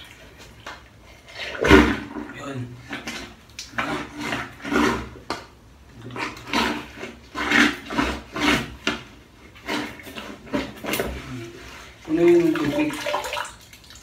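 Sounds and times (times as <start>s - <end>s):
plunger pumping in floor drain: 0.0s - 14.0s.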